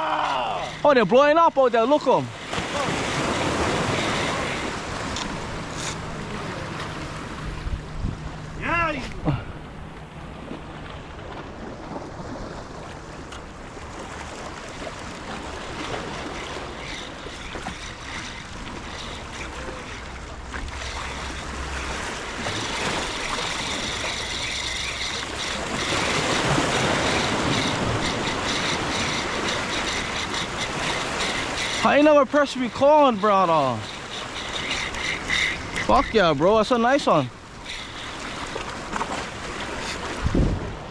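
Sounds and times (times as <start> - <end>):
surf washing on shore: 0.0 - 40.9
wind buffeting microphone: 2.3 - 19.6, 20.7 - 31.8, 33.8 - 40.9.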